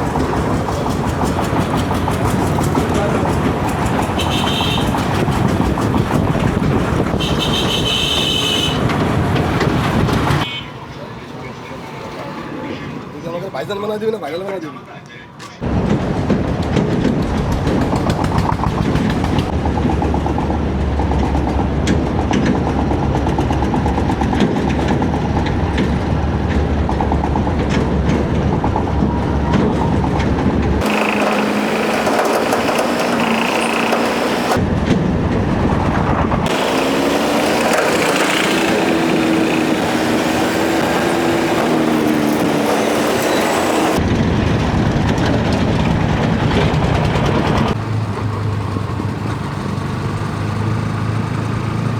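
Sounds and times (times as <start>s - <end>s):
heavy machinery diesel engines rumbling: 0.0s - 14.5s, 15.4s - 51.9s.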